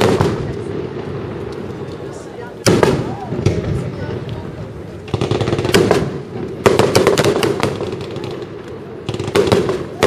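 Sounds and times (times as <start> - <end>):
fireworks crackling and popping: 0.0 - 10.0.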